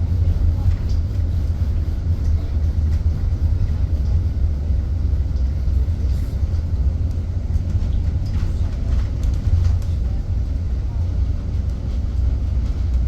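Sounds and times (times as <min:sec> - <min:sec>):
bus interior road rumble: 0:00.0 - 0:13.0.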